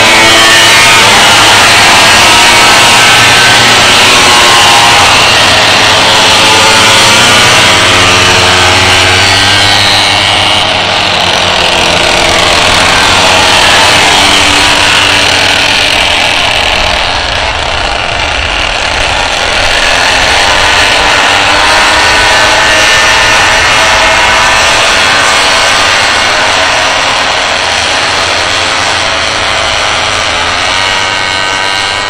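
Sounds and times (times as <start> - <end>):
small engines buzzing at high revs: 0.0 - 32.0.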